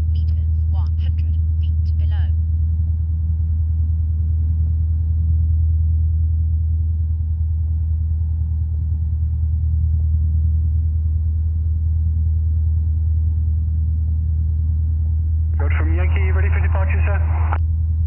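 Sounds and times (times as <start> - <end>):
propeller aircraft engine idling: 0.0 - 18.0.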